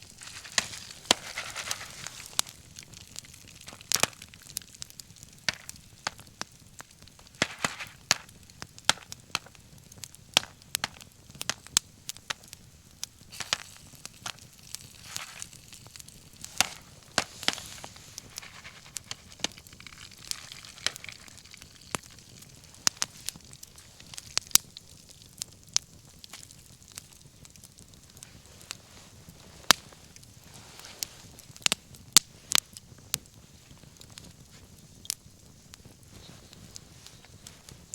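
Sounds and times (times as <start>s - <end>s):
soft hiss: 0.0s - 10.6s, 11.9s - 25.6s, 26.2s - 37.9s
bonfire crackling and popping: 0.0s - 37.9s.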